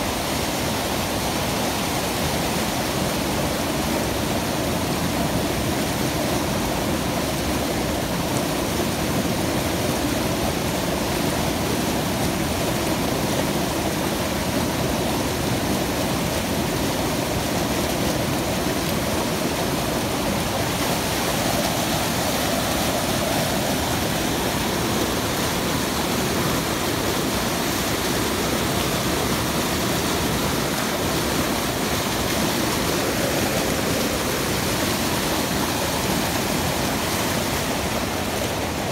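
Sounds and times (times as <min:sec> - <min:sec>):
fast-flowing water rushing: 0:00.0 - 0:38.9.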